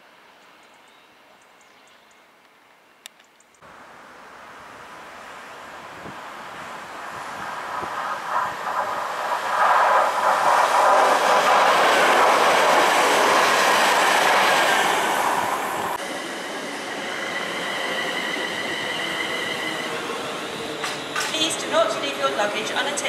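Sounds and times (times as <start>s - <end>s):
train passing at speed: 3.7s - 23.0s.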